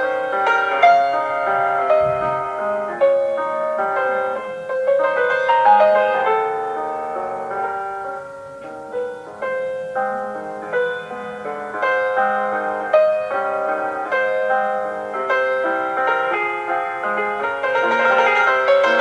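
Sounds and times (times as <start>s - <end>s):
slow classical piano melody: 0.0s - 19.0s.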